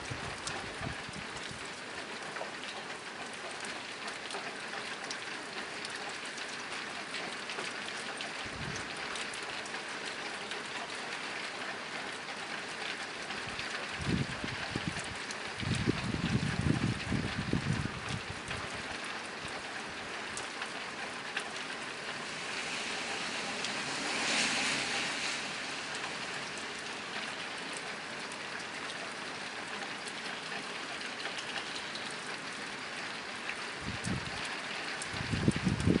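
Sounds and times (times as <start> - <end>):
rain on a tin roof: 0.0 - 36.0.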